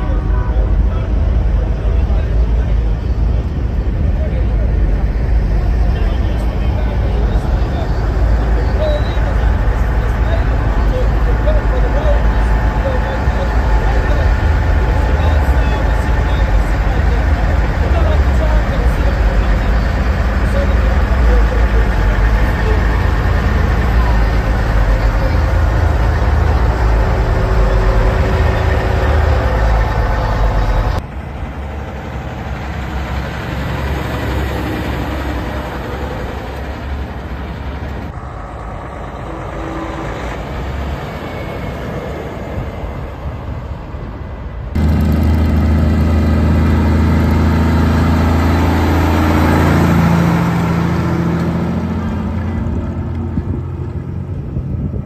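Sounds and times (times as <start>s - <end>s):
heavy truck engines running: 0.0s - 55.0s.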